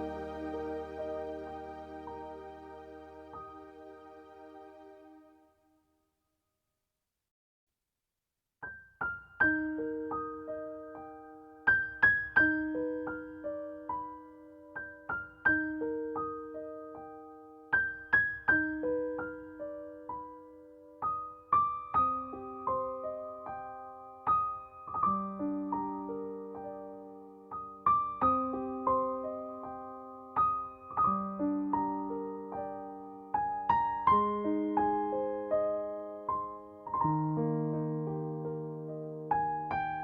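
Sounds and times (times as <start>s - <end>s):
gentle piano music: 0.0s - 5.5s, 8.7s - 40.0s.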